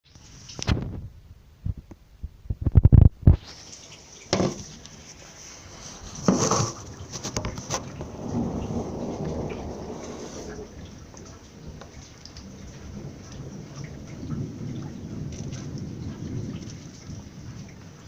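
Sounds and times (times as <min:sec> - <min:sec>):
steady rain hiss: 0:00.0 - 0:18.0
thunder cracking and rumbling: 0:00.6 - 0:03.7, 0:05.6 - 0:18.0.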